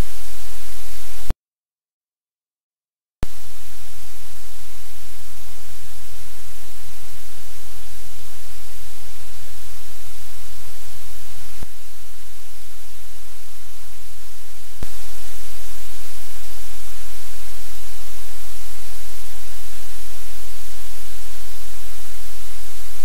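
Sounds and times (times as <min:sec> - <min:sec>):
static hiss: 0:00.0 - 0:01.3, 0:03.2 - 0:23.0.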